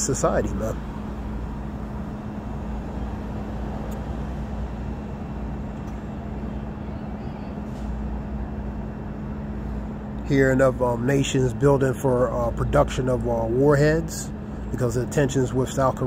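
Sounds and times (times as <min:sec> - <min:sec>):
road and engine noise inside car: 0:00.0 - 0:16.0.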